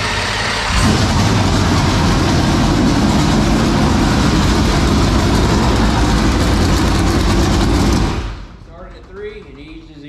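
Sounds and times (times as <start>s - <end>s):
race car engine loud idle: 0.0s - 10.0s.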